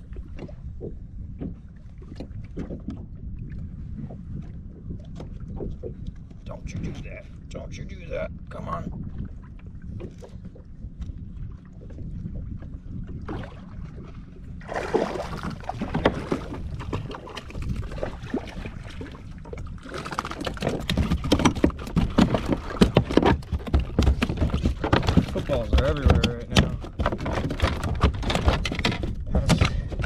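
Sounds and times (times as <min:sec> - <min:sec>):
water splashing against kayak: 0:00.0 - 0:07.4, 0:08.9 - 0:30.0
wind buffeting microphone: 0:00.0 - 0:30.0.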